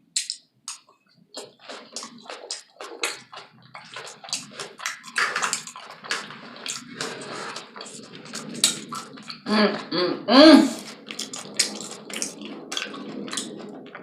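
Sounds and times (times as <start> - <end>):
person chewing wetly: 0.2 - 9.5, 10.7 - 14.0.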